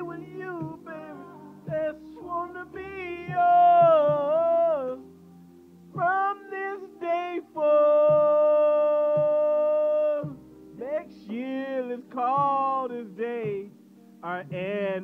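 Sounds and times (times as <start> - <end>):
man singing: 0.0 - 5.1, 6.0 - 15.0
backing track music: 0.0 - 15.0.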